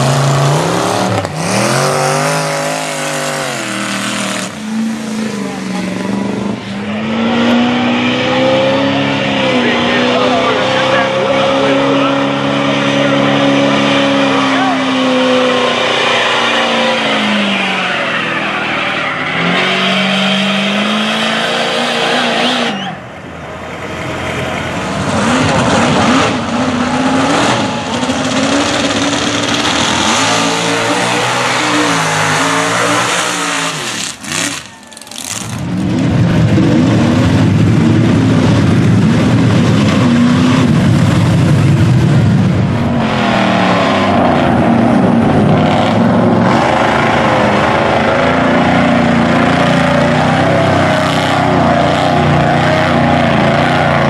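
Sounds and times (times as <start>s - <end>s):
truck engines revving hard: 0.0s - 54.0s.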